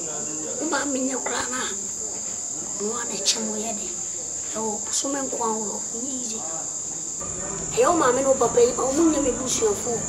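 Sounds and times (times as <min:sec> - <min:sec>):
crickets chirring: 0:00.0 - 0:10.0
quiet talking: 0:00.0 - 0:10.0.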